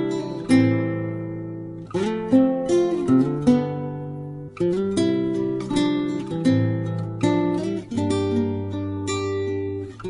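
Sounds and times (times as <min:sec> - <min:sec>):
plucked guitar notes: 0:00.0 - 0:10.0.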